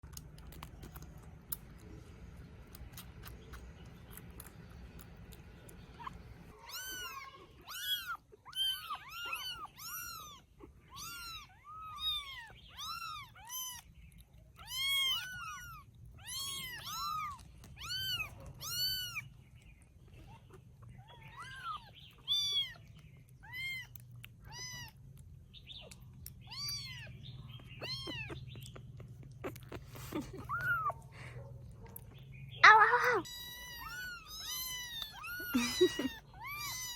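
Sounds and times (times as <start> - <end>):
kittens mewing: 2.6 - 14.0, 14.6 - 19.4, 20.1 - 25.2, 25.8 - 36.9.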